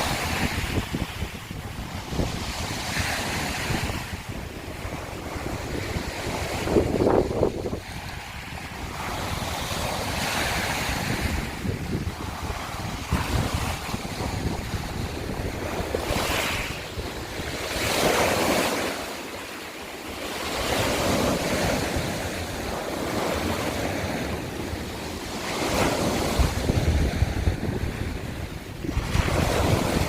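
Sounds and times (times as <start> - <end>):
waves washing over shells: 0.0 - 30.0
wind rumbling on microphone: 0.0 - 30.0.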